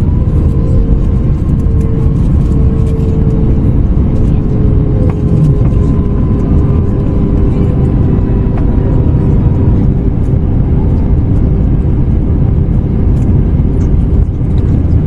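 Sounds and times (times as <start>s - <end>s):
airplane cabin rumble: 0.0s - 15.0s
constant hum: 0.0s - 15.0s.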